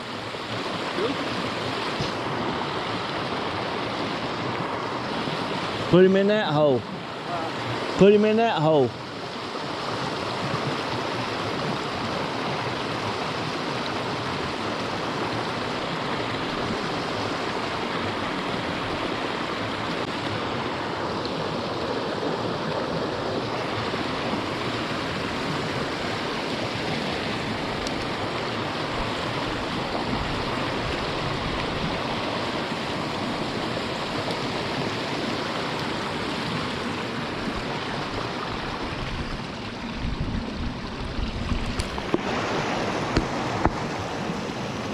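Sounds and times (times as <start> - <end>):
creek water running: 0.0 - 44.9.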